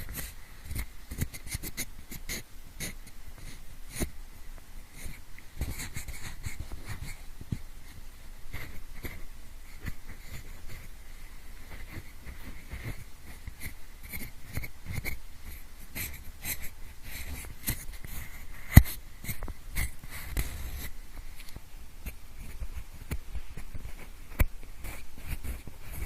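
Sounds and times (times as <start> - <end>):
pencil scratching and tapping: 0.0 - 4.2, 4.9 - 10.9, 11.7 - 26.0.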